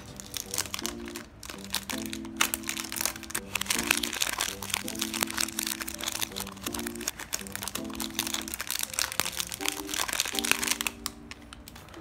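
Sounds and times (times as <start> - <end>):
background music with held chords: 0.0 - 12.0
plastic bag crinkling: 0.0 - 12.0.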